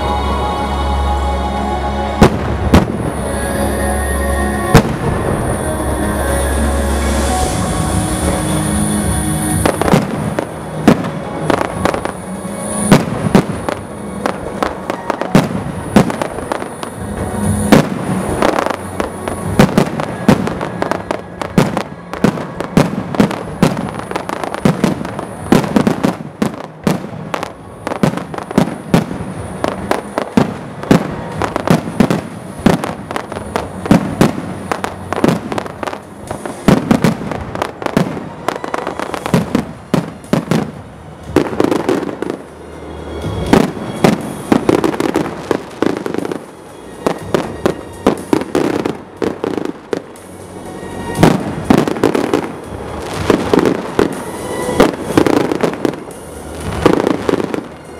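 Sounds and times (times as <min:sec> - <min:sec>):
fireworks bursting: 0:02.0 - 0:57.9.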